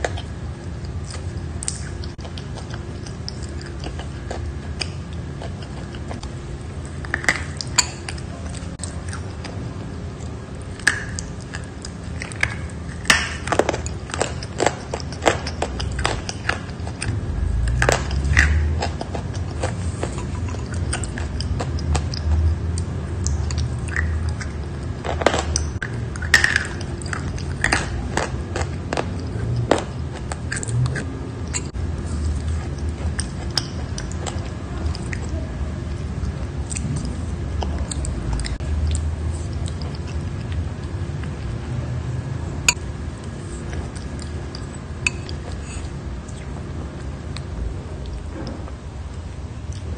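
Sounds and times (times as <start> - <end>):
low chewing sound: 0.0 - 49.9.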